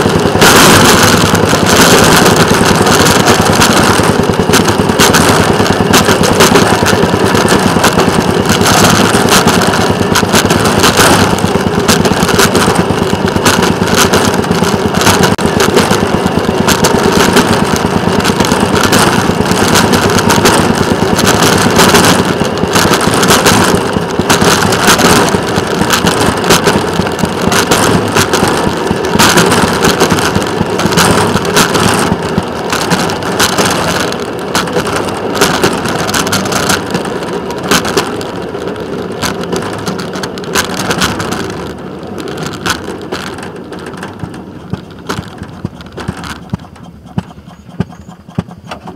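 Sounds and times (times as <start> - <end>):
rail vehicle engine running: 0.0 - 48.9
wheels clattering on rail: 0.0 - 48.9.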